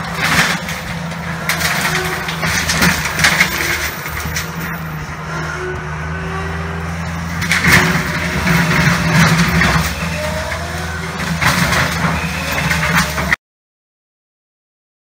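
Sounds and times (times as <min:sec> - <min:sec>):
diesel engine running: 0:00.0 - 0:13.4.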